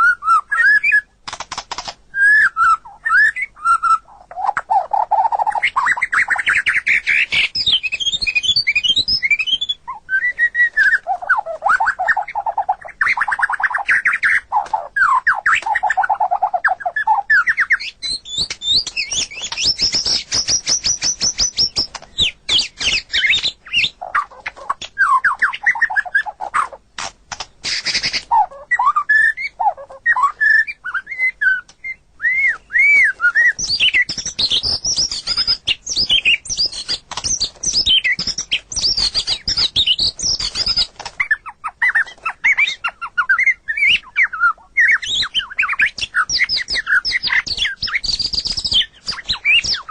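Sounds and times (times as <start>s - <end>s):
songbird singing varied song: 2.2s - 26.8s, 27.6s - 49.9s.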